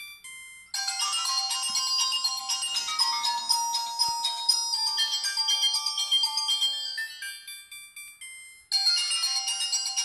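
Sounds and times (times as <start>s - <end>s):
polyphonic phone ringtone: 0.0s - 10.0s.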